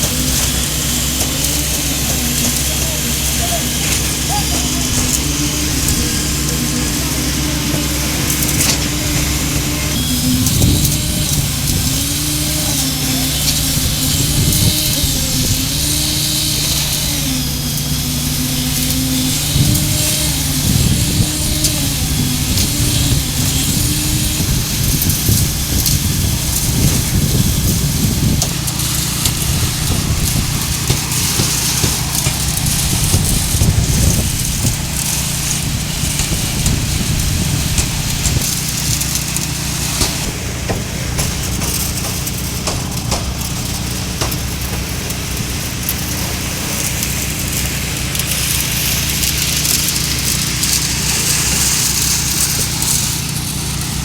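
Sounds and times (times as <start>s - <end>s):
hiss and rattle: 0.0s - 54.0s
truck diesel engine running: 0.0s - 54.0s.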